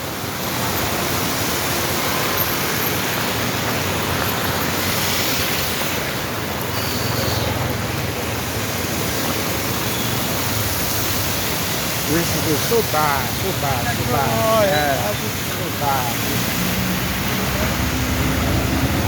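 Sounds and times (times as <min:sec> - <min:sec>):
heavy rain: 0:00.0 - 0:19.0
running water: 0:00.3 - 0:19.0.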